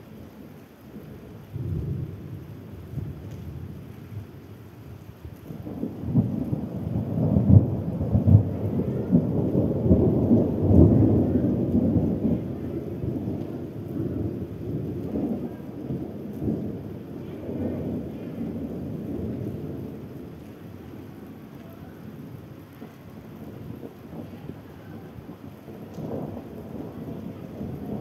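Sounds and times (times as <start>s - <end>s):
steady rain: 0.0s - 28.0s
rolling thunder: 5.5s - 28.0s.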